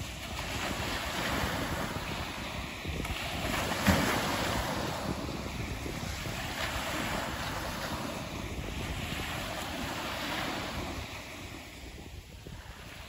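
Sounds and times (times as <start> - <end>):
small waves breaking on sand: 0.0 - 13.0
wind buffeting microphone: 0.0 - 13.0.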